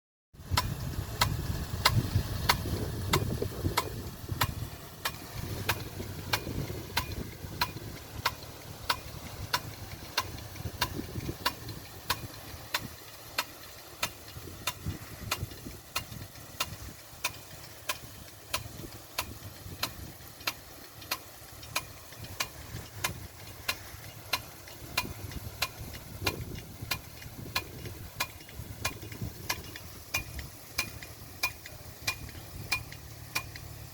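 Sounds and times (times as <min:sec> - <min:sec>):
sprinkler arm clacking: 0:00.4 - 0:33.9
water spray hissing: 0:00.4 - 0:33.9.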